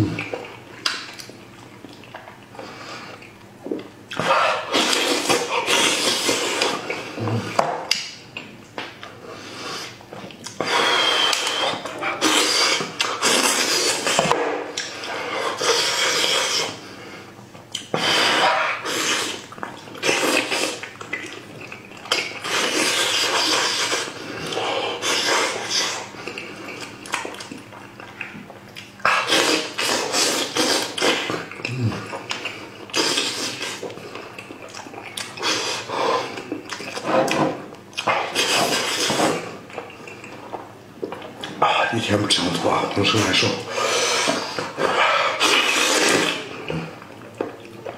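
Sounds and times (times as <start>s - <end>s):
wet chewing and slurping: 0.0s - 47.9s.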